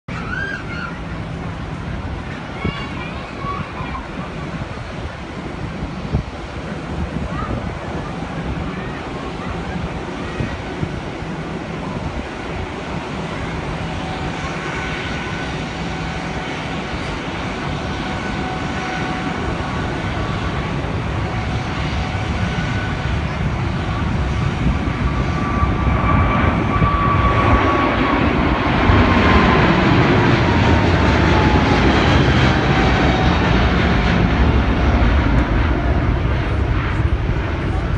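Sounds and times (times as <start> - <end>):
jet engine roar: 0.1 - 37.9.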